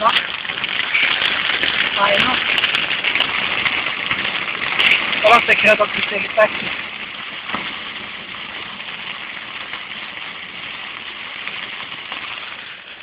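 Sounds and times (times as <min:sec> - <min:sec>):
heavy rain on car roof: 0:00.0 - 0:13.0
tyres running through water: 0:00.0 - 0:13.0.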